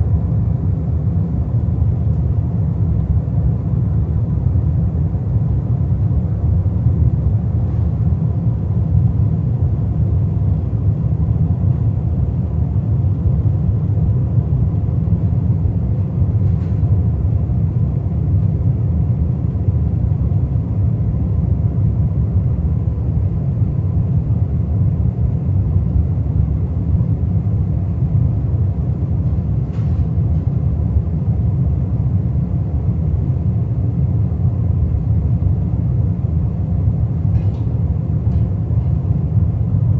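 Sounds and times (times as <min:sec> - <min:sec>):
airliner cabin rumble: 0:00.0 - 0:39.9
faint steady hum: 0:00.0 - 0:39.9.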